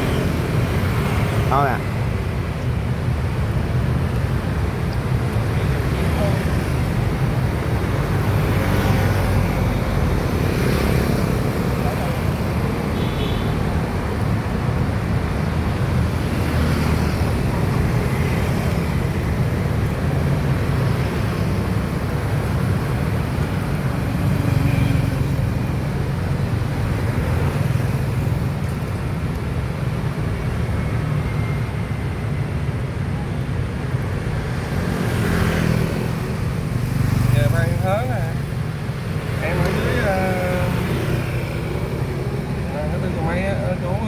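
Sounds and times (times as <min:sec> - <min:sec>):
road traffic: 0:00.0 - 0:44.0.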